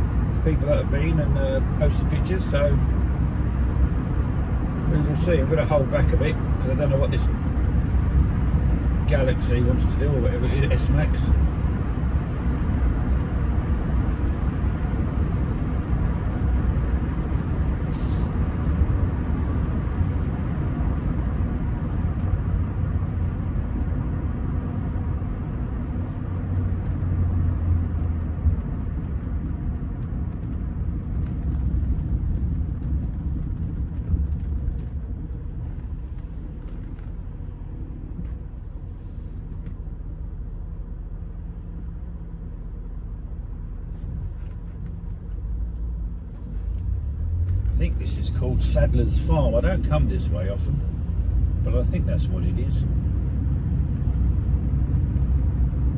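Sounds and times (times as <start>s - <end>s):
car engine rumble: 0.0s - 55.9s
tyre and road noise: 0.0s - 55.9s.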